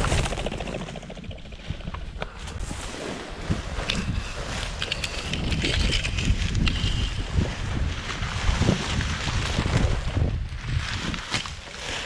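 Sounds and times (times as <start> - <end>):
reeds crackling against microphone: 0.0 - 12.0
wind buffeting microphone: 0.0 - 12.0.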